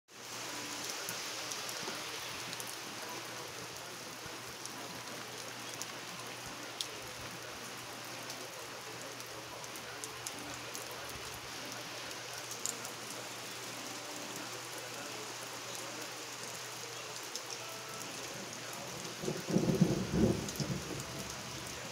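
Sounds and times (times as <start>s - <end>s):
rain falling on leafy plants: 0.1s - 21.9s.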